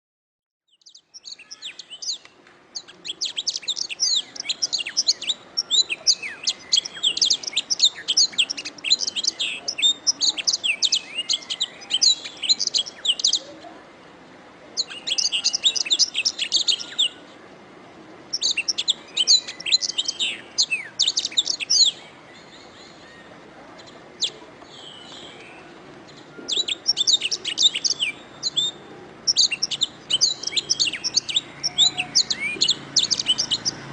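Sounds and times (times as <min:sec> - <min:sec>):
canary singing trills: 0:00.7 - 0:13.7, 0:14.8 - 0:17.3, 0:18.3 - 0:33.9.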